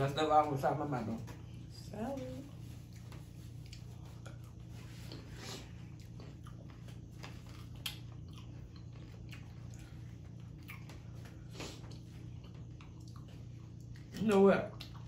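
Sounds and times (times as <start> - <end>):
people chewing and eating: 0.0 - 15.0
steady low hum: 0.0 - 15.0.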